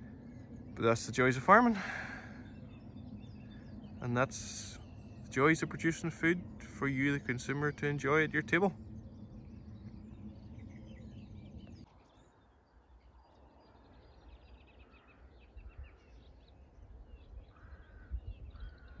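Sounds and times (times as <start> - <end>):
wind rumble on microphone: 0.0 - 14.7, 15.4 - 19.0
faint birdsong chirps: 0.0 - 19.0
steady low hum: 0.0 - 19.0.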